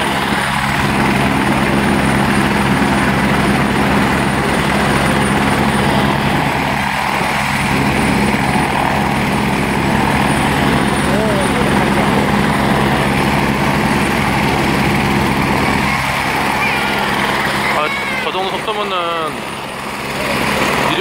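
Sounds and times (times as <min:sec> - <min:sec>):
helicopter rotor and engine noise: 0:00.0 - 0:21.0
high turbine whine: 0:00.0 - 0:21.0.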